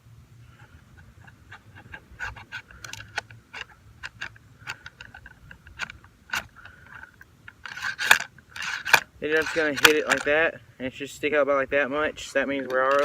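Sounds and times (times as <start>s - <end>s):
ramrod clicking and scraping in barrel: 0.5s - 10.5s, 12.1s - 13.0s.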